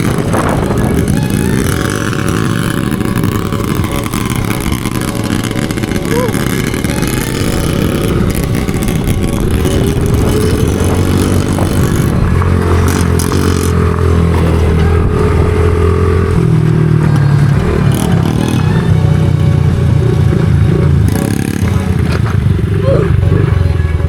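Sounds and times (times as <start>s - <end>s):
small single-cylinder engine running: 0.0s - 24.0s.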